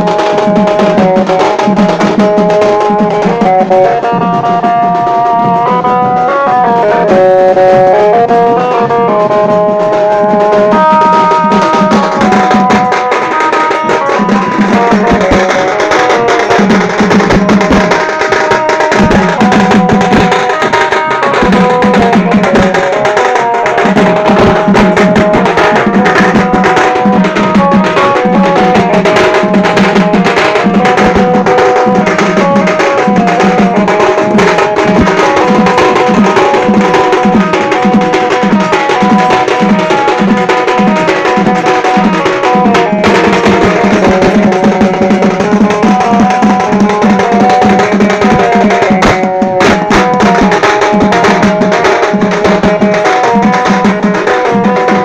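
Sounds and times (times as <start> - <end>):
large drums beaten with sticks: 0.0 - 55.0
melody of held notes: 0.0 - 55.0.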